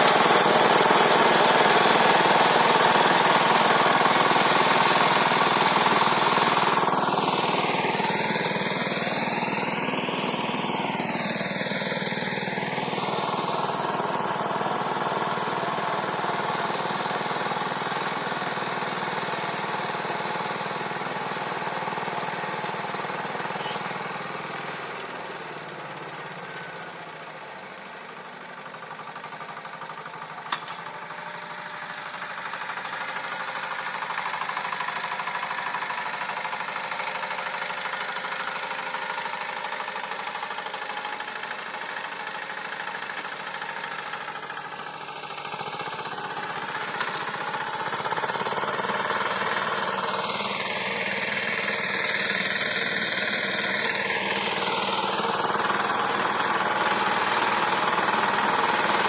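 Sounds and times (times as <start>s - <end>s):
small tiller engine running: 0.0s - 59.0s.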